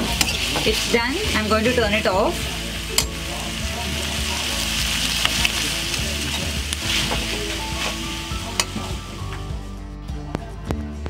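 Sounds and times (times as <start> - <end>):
mushrooms sizzling in a frying pan: 0.0 - 9.6.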